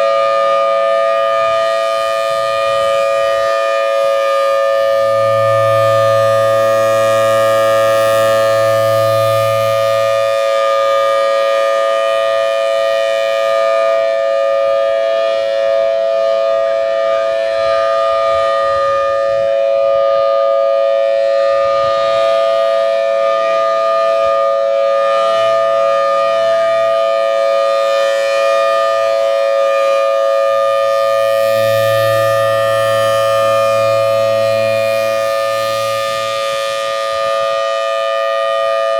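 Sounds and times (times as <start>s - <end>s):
siren steady tone: 0.0s - 38.9s.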